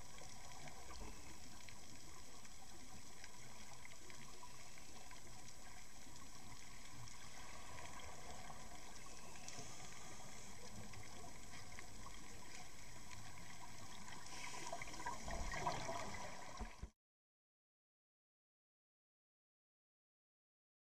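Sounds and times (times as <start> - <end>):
underwater rushing flow: 0.0 - 16.9.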